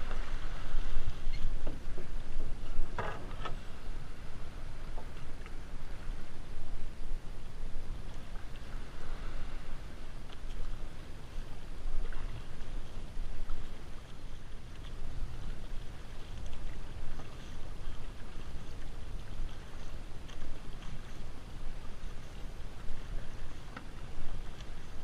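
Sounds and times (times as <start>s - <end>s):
paddle splashes: 0.0s - 25.0s
water rushing along hull: 0.0s - 25.0s.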